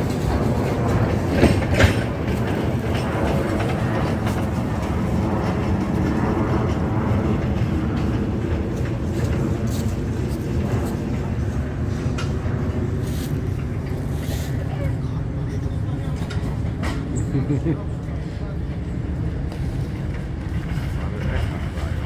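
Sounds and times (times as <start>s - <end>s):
trolley rolling along rails: 0.0s - 22.0s.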